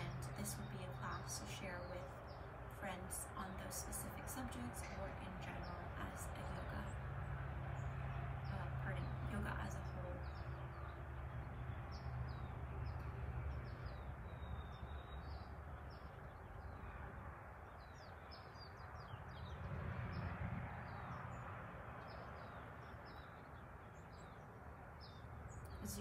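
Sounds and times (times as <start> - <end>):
low background rumble: 0.0 - 26.0
small birds chirping: 0.0 - 26.0.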